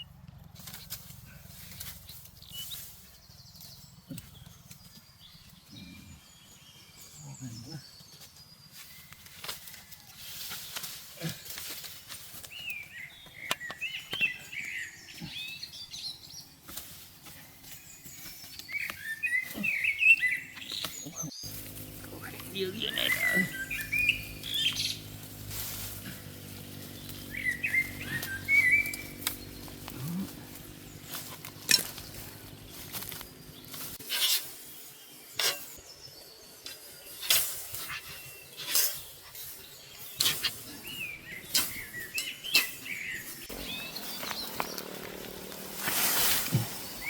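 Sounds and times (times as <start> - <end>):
birds chirping: 1.2 - 47.0.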